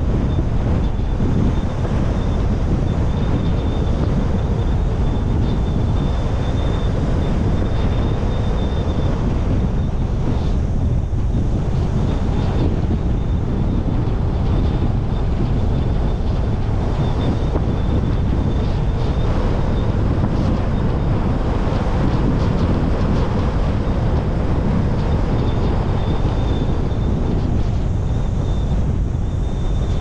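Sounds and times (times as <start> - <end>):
car road noise: 0.0 - 30.0
wind buffeting microphone: 0.0 - 30.0.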